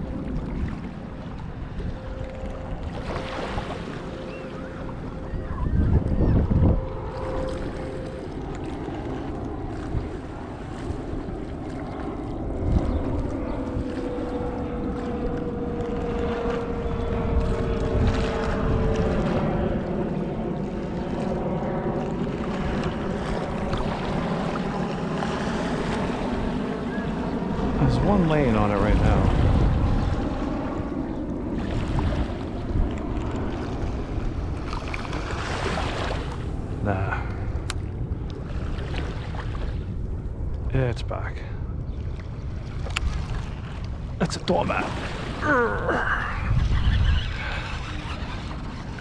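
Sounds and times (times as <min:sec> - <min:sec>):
faint distant engine drone: 0:00.0 - 0:49.0
small waves lapping: 0:00.0 - 0:49.0
wind buffeting microphone: 0:00.0 - 0:49.0.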